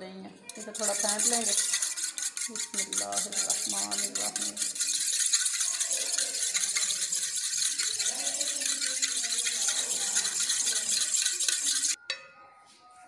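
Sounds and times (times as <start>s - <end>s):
wire whisk beating yogurt in pot: 0.5s - 12.0s.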